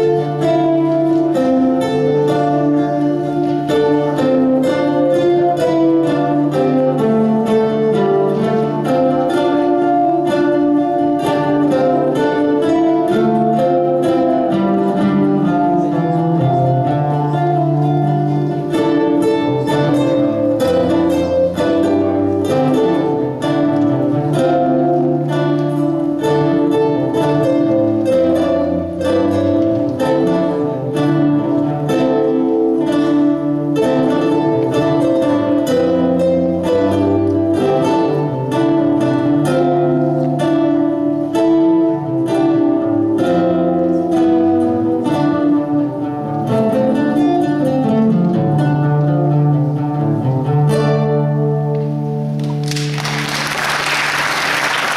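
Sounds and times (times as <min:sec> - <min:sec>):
acoustic guitar ensemble playing: 0:00.0 - 0:54.9.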